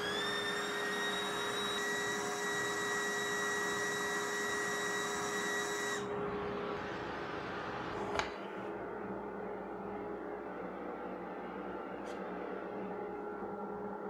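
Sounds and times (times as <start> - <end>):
anemometer high whine: 0.0 - 14.0.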